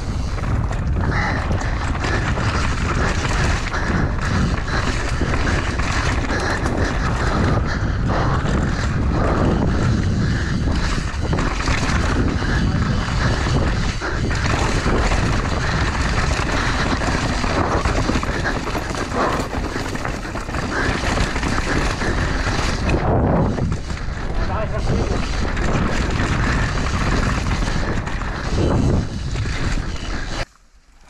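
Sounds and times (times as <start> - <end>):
bike tyres rattling over trail: 0.0 - 31.0.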